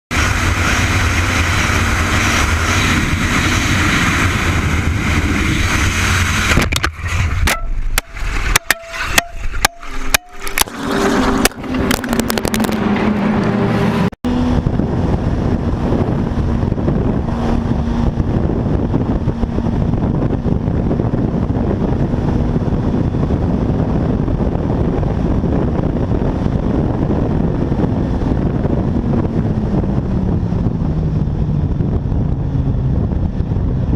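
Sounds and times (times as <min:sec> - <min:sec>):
car engine running: 0:00.1 - 0:33.9
tyres on road: 0:00.1 - 0:33.9.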